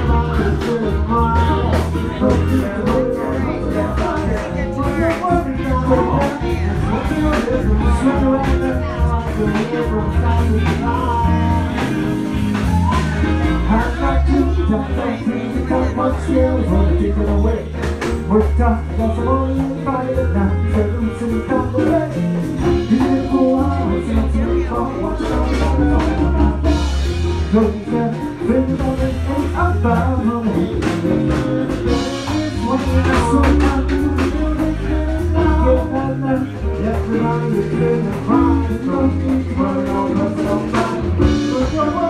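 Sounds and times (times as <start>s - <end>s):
bass line: 0.0s - 42.0s
brass funk band playing: 0.0s - 42.0s
drum kit: 0.0s - 42.0s.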